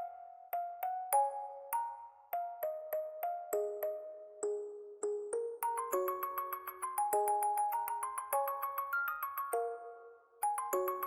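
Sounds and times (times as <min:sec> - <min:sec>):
bell-like melody music: 0:00.0 - 0:11.0.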